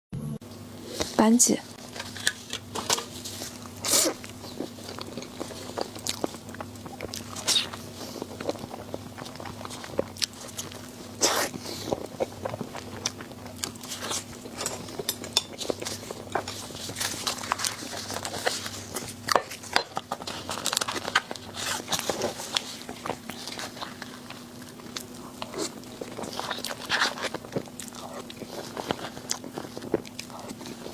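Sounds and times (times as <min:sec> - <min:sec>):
faint low hum: 0:00.2 - 0:30.9
person chewing crunchy food: 0:00.6 - 0:30.9.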